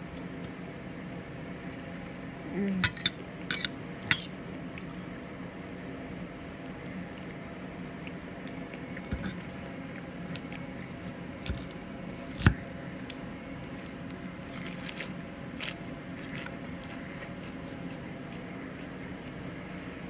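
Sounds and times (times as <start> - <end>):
steady low hum: 0.0 - 20.0
chewing food: 3.7 - 19.9.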